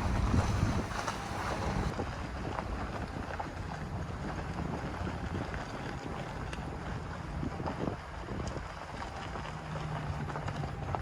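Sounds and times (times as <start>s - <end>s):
truck engine low rumble: 0.0s - 11.0s
wind noise on microphone: 0.0s - 11.0s.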